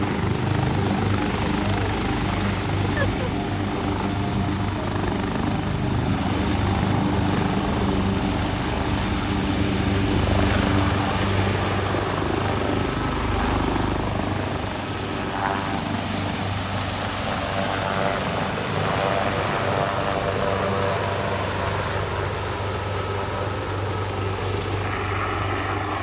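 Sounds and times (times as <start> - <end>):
helicopter rotor drone: 0.0 - 26.0.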